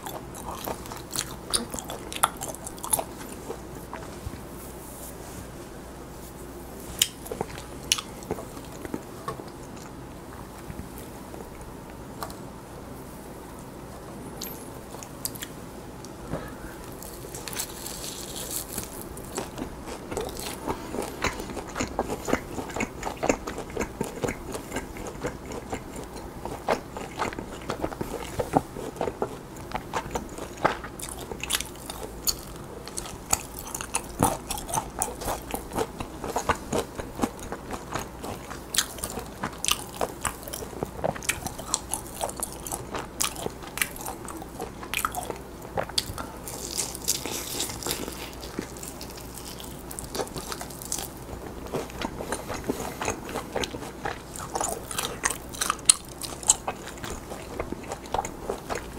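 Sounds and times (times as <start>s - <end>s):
chewing meat: 0.0s - 4.2s, 7.0s - 12.4s, 16.8s - 58.9s.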